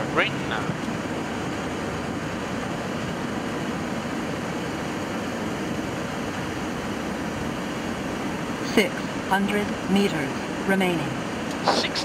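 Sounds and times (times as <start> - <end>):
jet engines in reverse thrust: 0.0 - 12.0.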